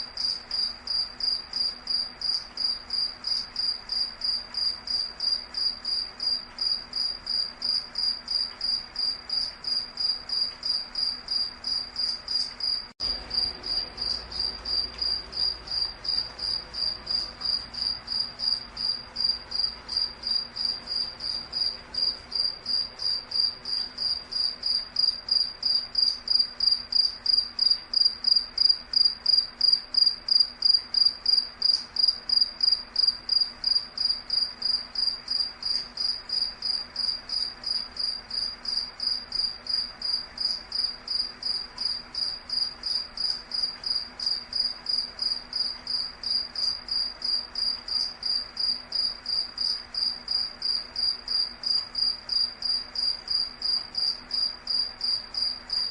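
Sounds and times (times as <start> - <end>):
insect chirping: 0.0 - 55.9.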